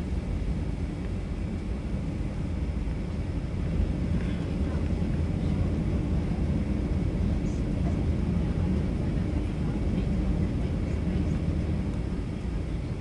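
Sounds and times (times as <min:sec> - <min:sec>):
engine and airflow noise: 0:00.0 - 0:13.0
low rumble of aircraft cabin: 0:00.0 - 0:13.0.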